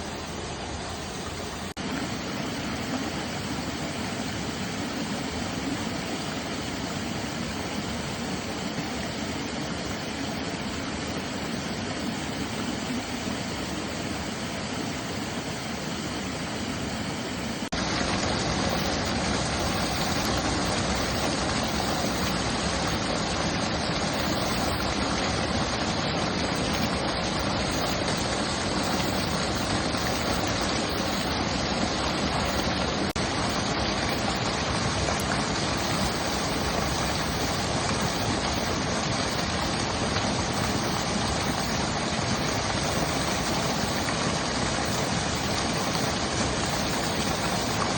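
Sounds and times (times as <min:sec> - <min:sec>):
mountain stream flowing: 0:00.0 - 0:47.9.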